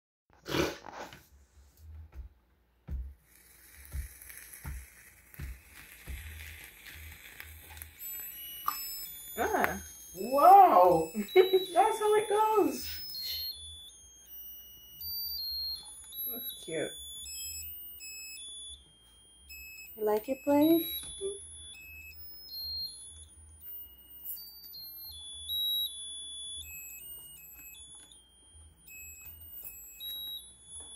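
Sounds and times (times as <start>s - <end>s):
candle sparkler fuse hissing: 3.2s - 28.2s
electronic beeping tune: 5.6s - 30.9s.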